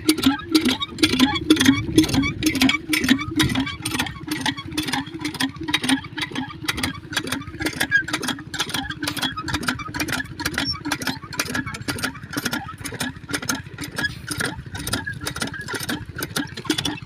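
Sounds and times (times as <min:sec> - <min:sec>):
diesel engine idling with clatter: 0:00.0 - 0:17.0.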